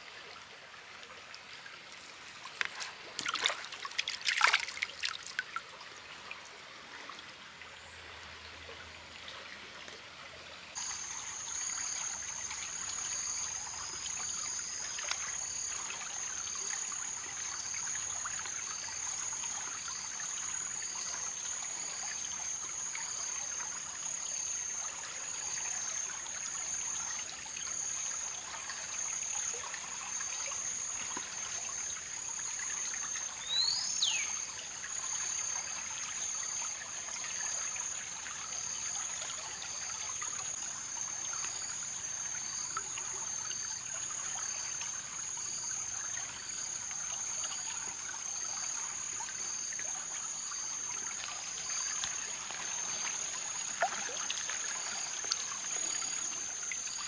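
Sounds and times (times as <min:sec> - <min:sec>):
trickling water: 0:00.0 - 0:57.0.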